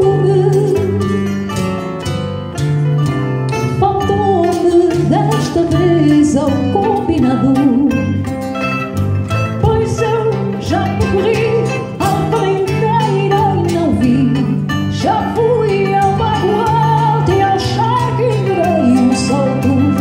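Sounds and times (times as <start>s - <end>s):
woman singing: 0.0s - 1.5s, 3.7s - 8.4s, 9.4s - 20.0s
plucked guitars: 0.0s - 20.0s.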